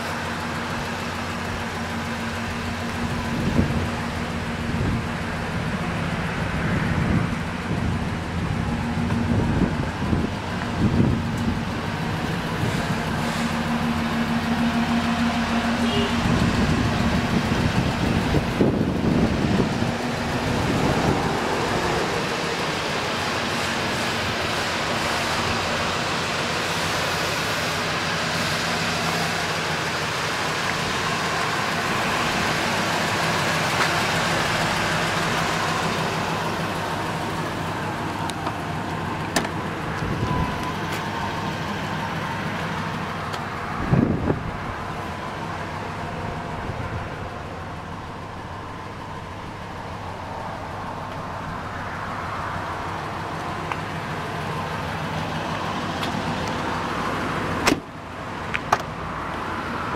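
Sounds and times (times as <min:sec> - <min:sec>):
pickup truck engine idling: 0:00.0 - 0:59.9.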